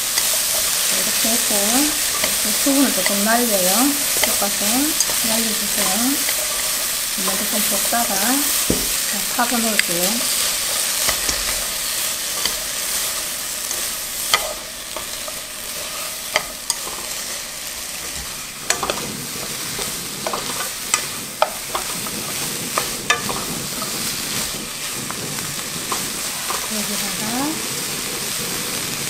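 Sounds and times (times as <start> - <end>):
vegetables sizzling in a pan: 0.0 - 29.0
wooden utensils clicking on pan: 0.0 - 29.0.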